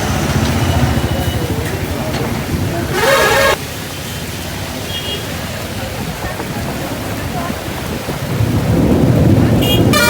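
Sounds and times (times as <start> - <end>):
heavy rain hissing: 0.0 - 10.0
low traffic rumble: 0.0 - 10.0.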